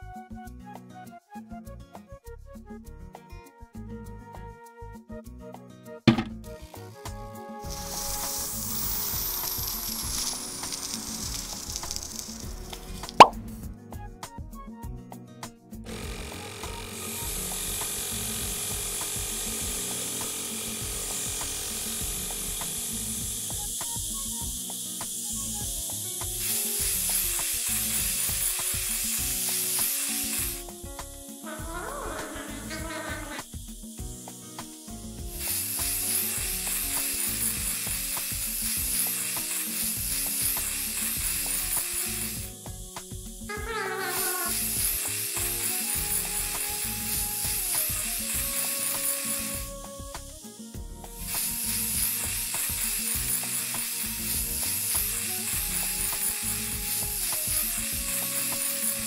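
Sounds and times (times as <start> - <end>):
soft background music: 0.0 - 59.0
compressed air hissing: 6.1 - 13.7, 15.8 - 59.0.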